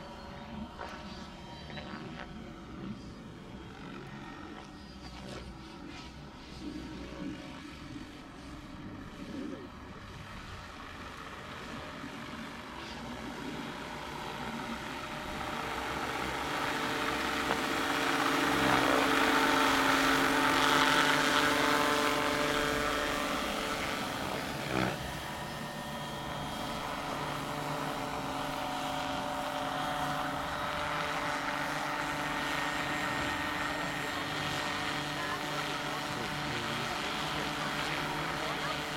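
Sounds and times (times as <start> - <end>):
rc helicopter rotor and motor whine: 0.0 - 38.9.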